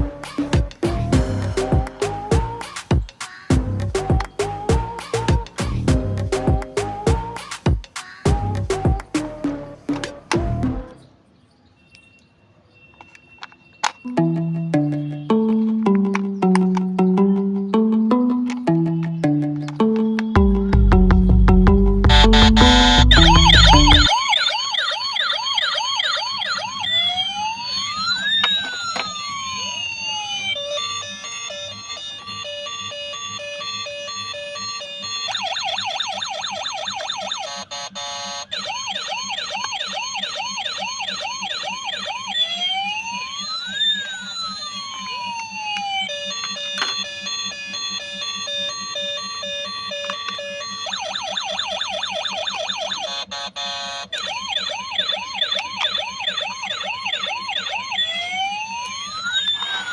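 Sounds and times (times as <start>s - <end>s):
toy police siren cycling patterns: 0.8s - 9.4s, 12.9s - 21.5s, 22.1s - 59.9s.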